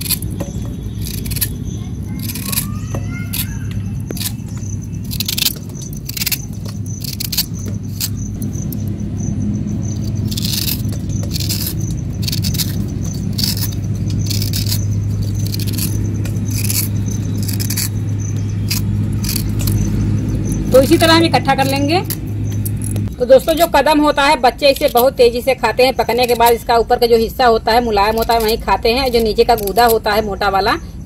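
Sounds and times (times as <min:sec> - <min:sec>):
knife scraping fruit rind: 0:00.0 - 0:09.0, 0:09.6 - 0:30.3
steady low hum: 0:00.0 - 0:31.0.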